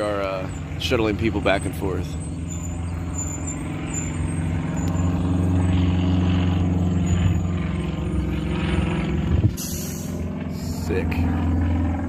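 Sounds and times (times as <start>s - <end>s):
diesel bus engine humming: 0.0s - 12.0s.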